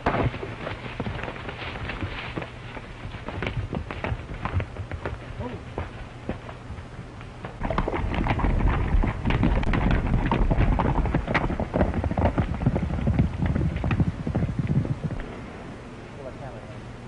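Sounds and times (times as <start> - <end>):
horse hooves clattering: 0.0 - 15.6.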